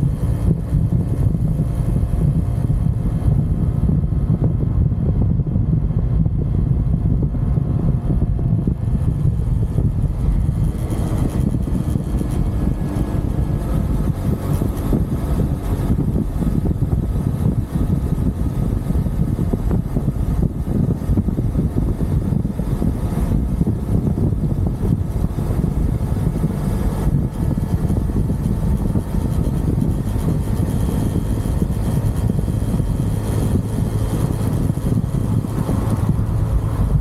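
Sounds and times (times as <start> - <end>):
motorcycle engine running: 0.0 - 37.0
wind rumble on microphone: 0.0 - 37.0.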